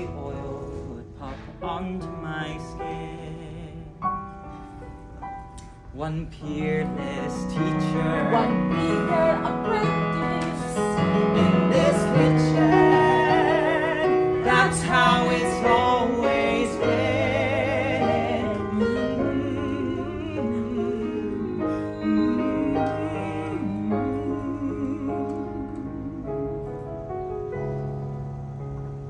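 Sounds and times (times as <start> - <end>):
man and woman singing duet: 0.0 - 4.1, 6.0 - 26.8
piano accompaniment: 0.0 - 29.0.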